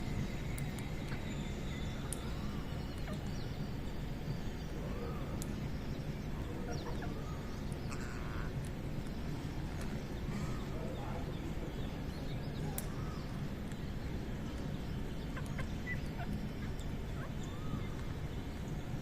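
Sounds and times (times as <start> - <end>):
bird calls and chirps: 0.0 - 19.0.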